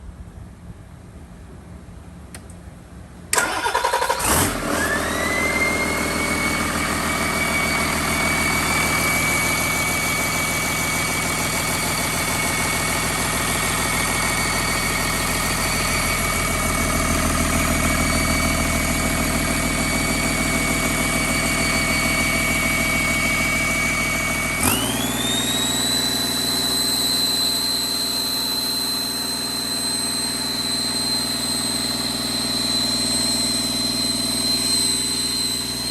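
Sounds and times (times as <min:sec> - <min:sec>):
high engine whine: 0:00.1 - 0:35.9
diesel engine starting and running: 0:01.7 - 0:35.9.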